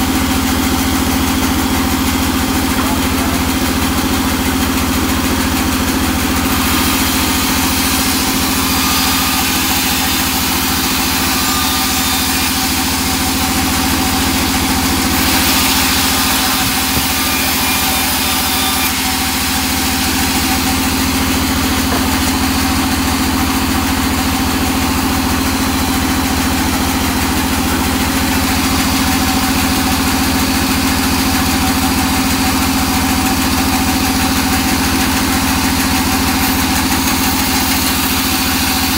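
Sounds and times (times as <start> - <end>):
band saw running: 0.0 - 38.9.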